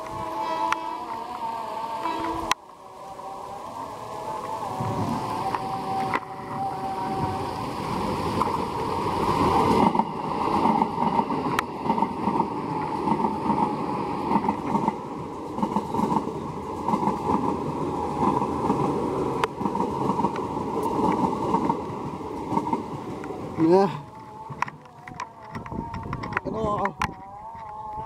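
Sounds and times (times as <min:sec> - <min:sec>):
heavy rain: 0:00.0 - 0:26.4
train wheels rumbling on rails: 0:03.6 - 0:27.6.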